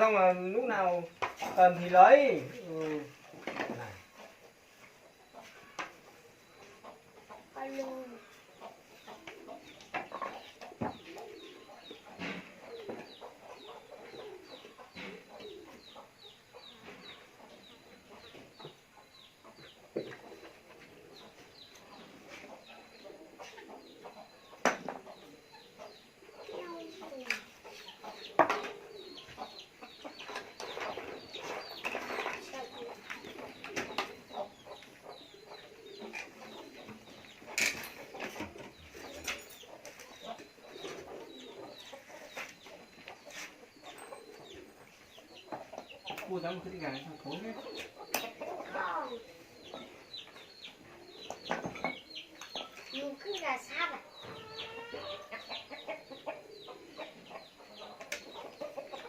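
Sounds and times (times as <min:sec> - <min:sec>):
chickens clucking and cheeping: 0:00.0 - 0:59.0.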